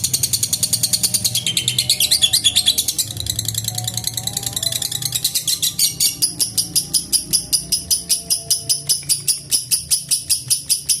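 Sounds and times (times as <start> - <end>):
bird high-pitched chattering: 0.0 - 11.0.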